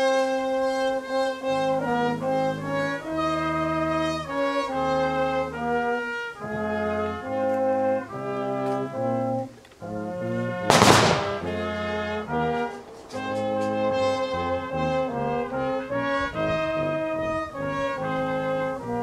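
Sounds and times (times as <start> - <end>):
slow brass music: 0.0 - 19.0.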